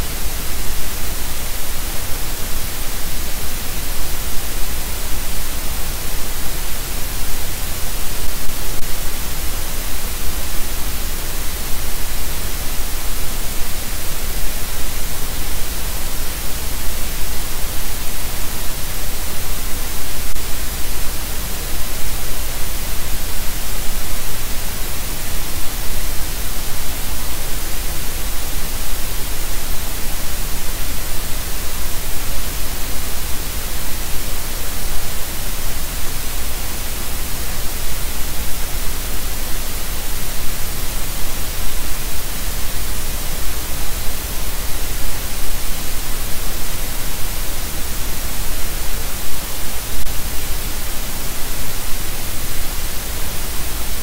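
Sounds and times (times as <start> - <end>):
static hiss: 0.0 - 54.0.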